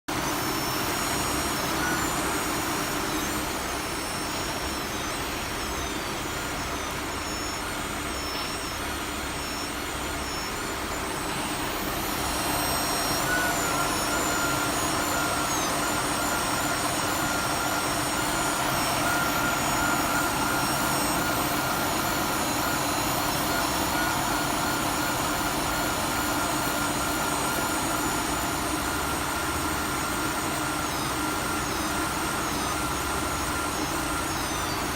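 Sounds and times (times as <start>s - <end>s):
power steering whine: 0.1s - 34.9s.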